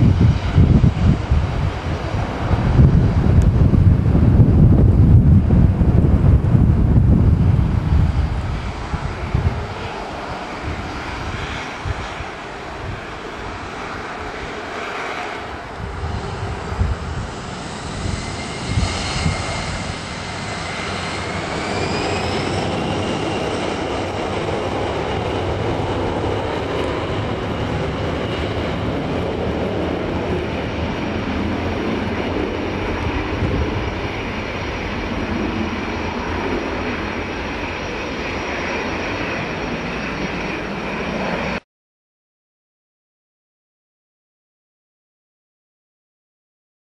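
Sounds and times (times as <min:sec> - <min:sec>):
jet engines spooling up: 0:00.0 - 0:41.6.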